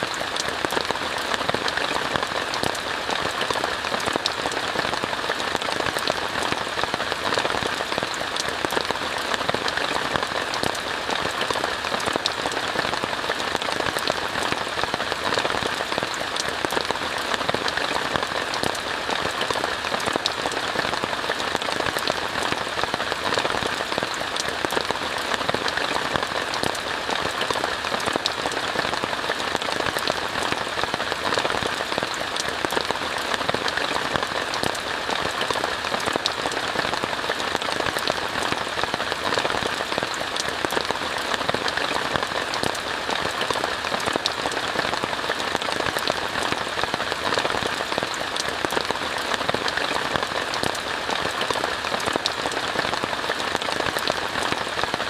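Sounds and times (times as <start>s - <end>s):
rain hissing on a tent: 0.0s - 55.0s
raindrop taps: 0.0s - 55.0s.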